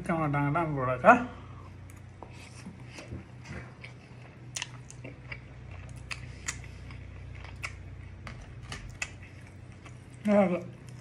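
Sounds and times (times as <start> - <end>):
low steady hum: 0.0 - 11.0
man chewing food: 1.4 - 11.0.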